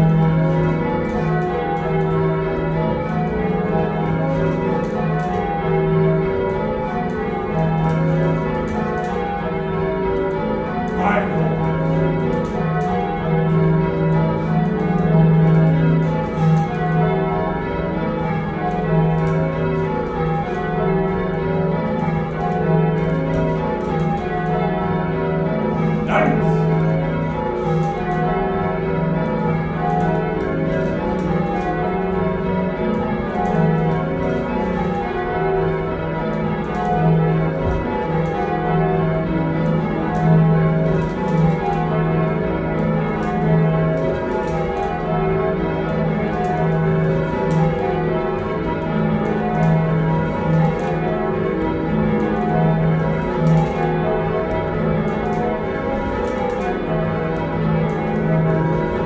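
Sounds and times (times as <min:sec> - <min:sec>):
church bells ringing changes: 0:00.0 - 0:59.0.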